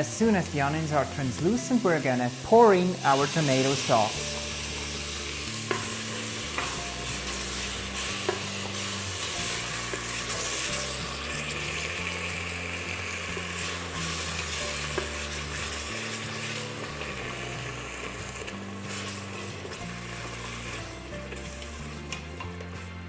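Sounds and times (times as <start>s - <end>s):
onions sizzling in hot oil: 0.0s - 23.0s.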